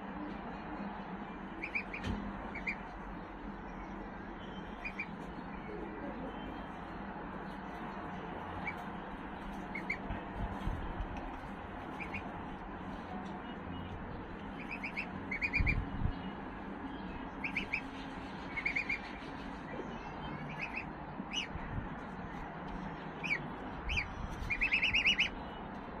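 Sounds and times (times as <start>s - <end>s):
steady background noise: 0.0s - 26.0s
small birds chirping: 1.5s - 12.4s, 13.2s - 26.0s.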